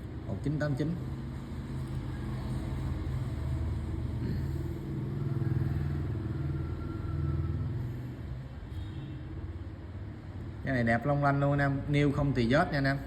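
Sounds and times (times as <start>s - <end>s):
passing vehicle engine rumbling: 0.0s - 13.0s.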